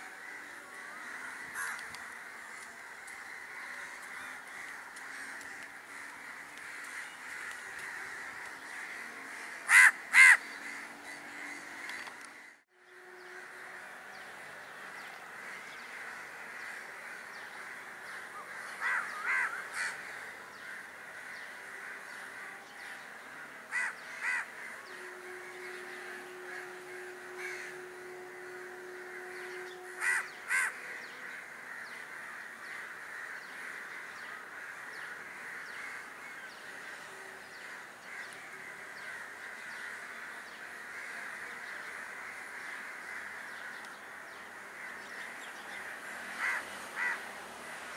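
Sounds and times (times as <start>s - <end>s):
bird cawing: 0.0s - 13.8s, 14.7s - 47.3s
steady background hum: 0.0s - 47.9s.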